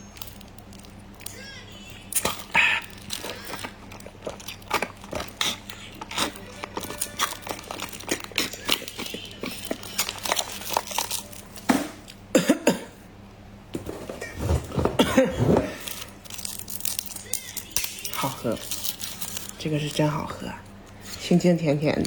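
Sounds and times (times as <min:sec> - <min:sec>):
plastic packaging crinkling: 0:00.0 - 0:12.2, 0:14.4 - 0:21.2.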